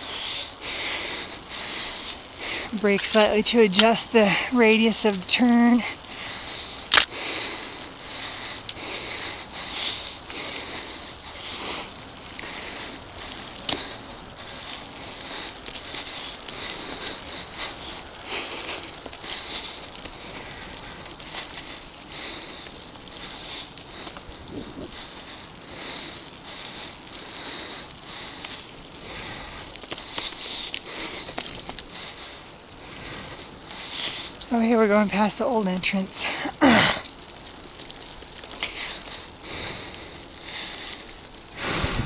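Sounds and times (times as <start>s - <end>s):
bike clicks and rattles: 0.0s - 42.0s
bike tyres crackling over leaves: 0.0s - 42.0s.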